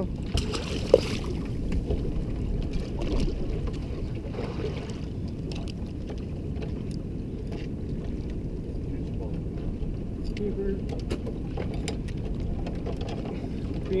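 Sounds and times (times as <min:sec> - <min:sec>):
boat engine low rumble: 0:00.0 - 0:14.0.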